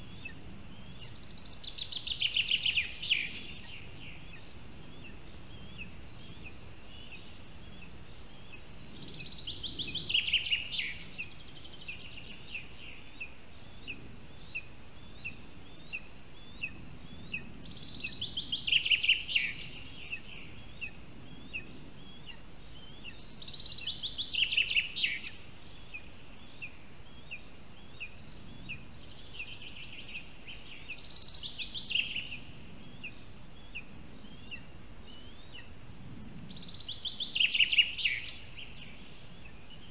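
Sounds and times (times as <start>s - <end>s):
songbird singing trill: 0.0s - 39.9s.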